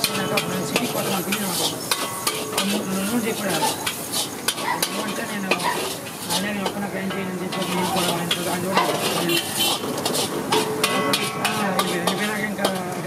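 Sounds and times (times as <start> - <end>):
food sizzling: 0.0 - 13.0
metal spatula scraping a wok: 0.0 - 13.0.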